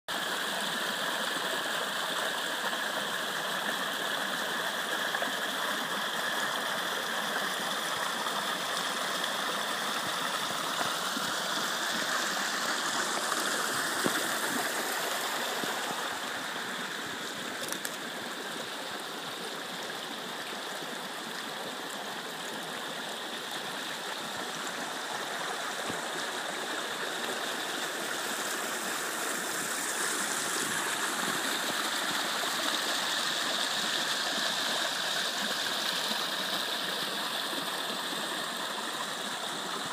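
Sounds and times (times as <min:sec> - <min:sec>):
stream flowing over rocks: 0:00.1 - 0:39.9.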